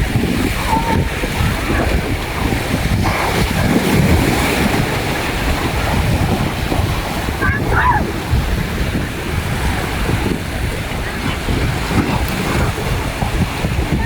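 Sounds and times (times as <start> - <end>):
waves washing onto beach: 0.0 - 14.0
wind buffeting microphone: 0.0 - 14.0.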